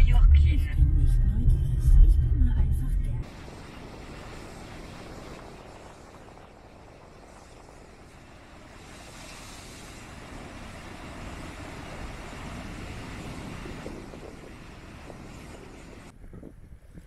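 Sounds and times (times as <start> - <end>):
car road and wind noise: 0.0 - 17.0.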